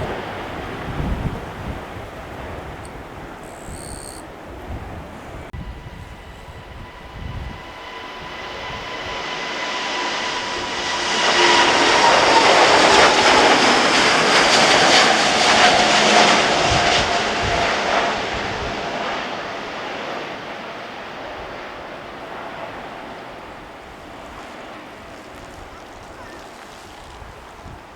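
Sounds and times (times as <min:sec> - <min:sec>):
jet airliner engines passing: 0:00.0 - 0:27.9.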